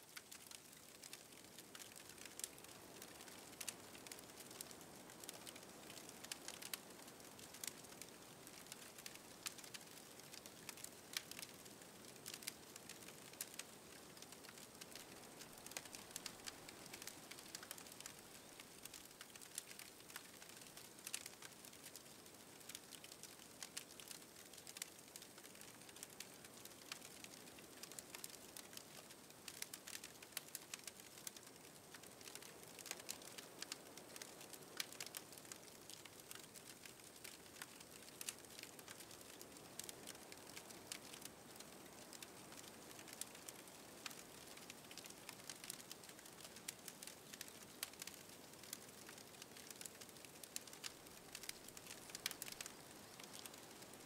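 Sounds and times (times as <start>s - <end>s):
charcoal crackling and popping: 0.0s - 54.0s
low hiss: 0.0s - 54.0s.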